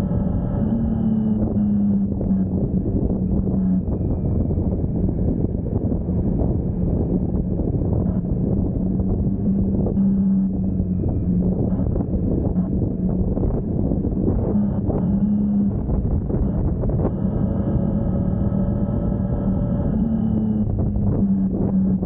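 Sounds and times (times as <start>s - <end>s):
motorcycle engine humming: 0.0s - 22.0s
wind rushing over microphone: 0.0s - 22.0s.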